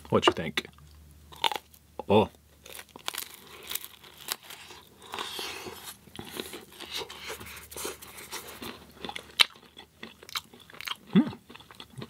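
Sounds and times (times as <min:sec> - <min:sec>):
person chewing crisp food: 0:00.7 - 0:01.8, 0:02.6 - 0:12.0.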